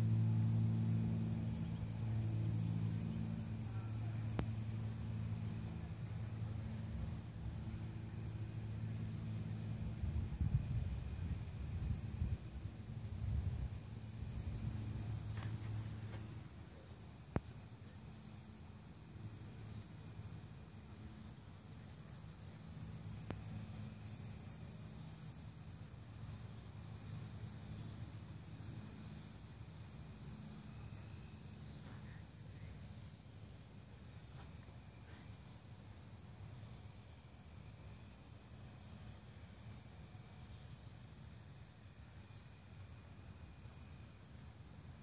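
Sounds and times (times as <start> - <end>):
crickets trilling: 0.0 - 45.0
insect pulsing: 0.0 - 45.0
low steady hum: 0.0 - 45.0.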